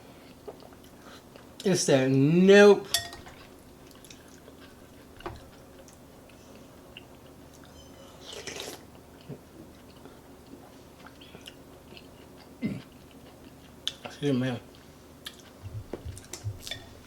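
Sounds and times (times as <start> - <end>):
person chewing: 0.2 - 1.6, 3.4 - 17.0.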